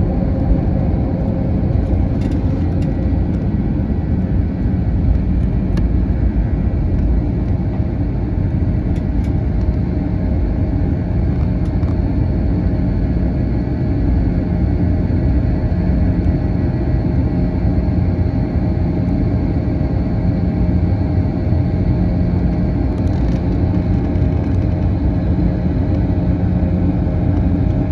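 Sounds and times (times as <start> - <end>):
jet airliner cabin rumble: 0.0 - 27.9.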